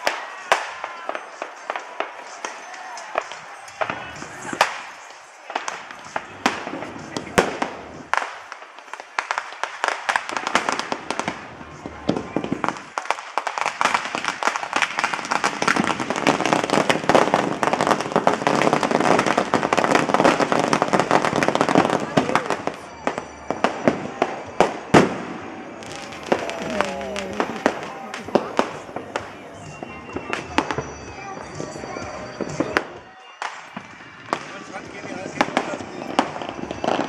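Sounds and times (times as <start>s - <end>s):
firecrackers crackling: 0.0s - 37.0s
fireworks bangs: 0.0s - 37.0s.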